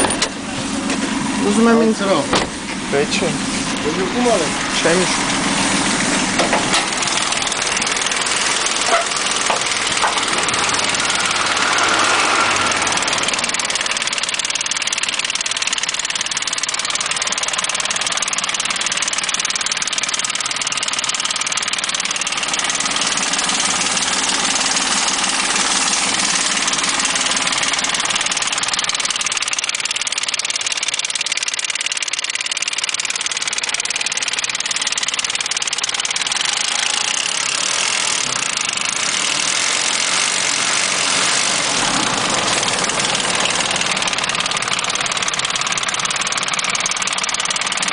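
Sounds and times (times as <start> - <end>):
car engine running: 0.0 - 47.9
engine knocking: 0.0 - 47.9.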